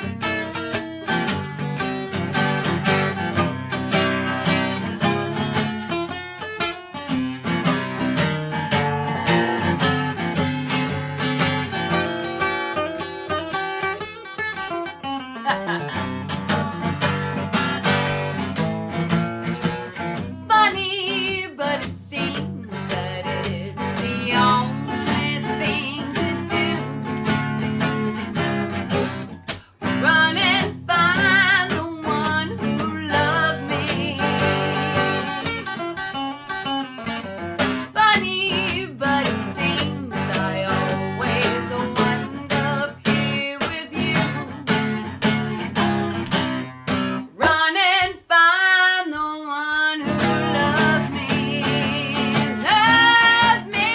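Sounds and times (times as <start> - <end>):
strummed acoustic guitar: 0.0 - 48.3, 49.8 - 53.9.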